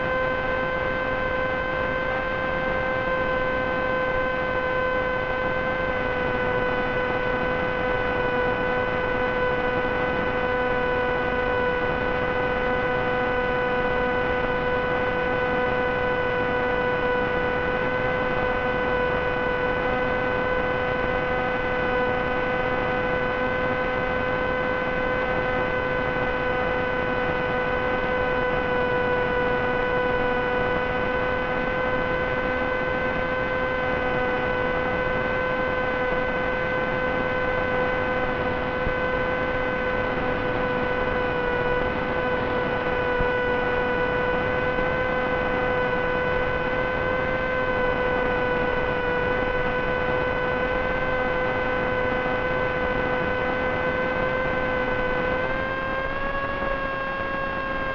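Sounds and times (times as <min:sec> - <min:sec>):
electric motor and propeller hum: 0:00.0 - 0:57.9.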